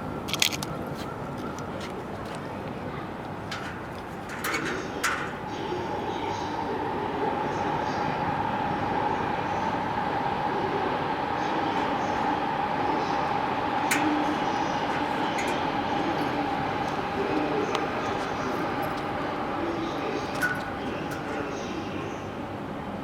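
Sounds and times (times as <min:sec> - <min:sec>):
electric train rumbling on rails: 0:00.0 - 0:23.0.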